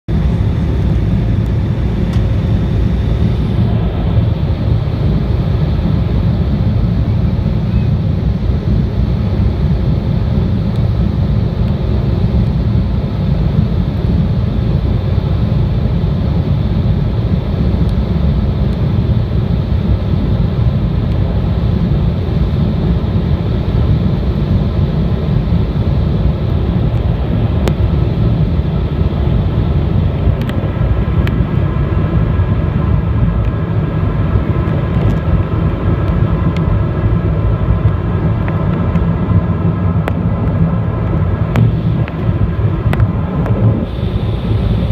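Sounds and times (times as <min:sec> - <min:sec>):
jet engine and airflow rumble: 0:00.0 - 0:44.9
faint steady whine: 0:00.1 - 0:44.9.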